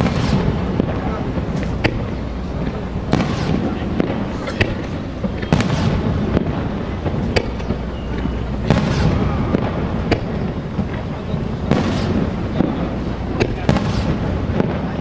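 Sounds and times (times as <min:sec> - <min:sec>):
fireworks bursting: 0:00.0 - 0:15.0
low rumble: 0:00.0 - 0:15.0.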